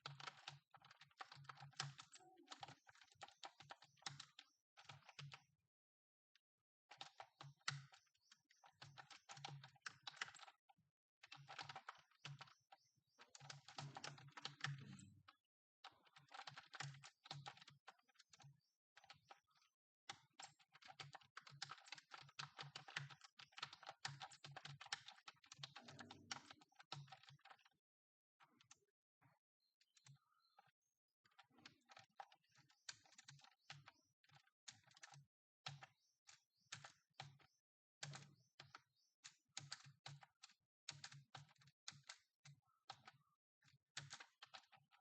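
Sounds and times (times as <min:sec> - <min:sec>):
keyboard typing: 0:00.0 - 0:05.5, 0:06.9 - 0:10.6, 0:11.2 - 0:27.8, 0:29.9 - 0:43.2, 0:44.0 - 0:45.0.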